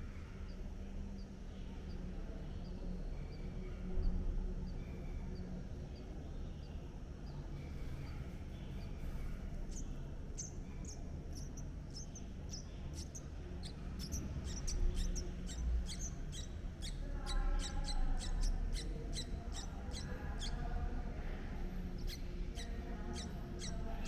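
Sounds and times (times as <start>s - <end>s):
nestlings squeaking: 4.7s - 24.0s.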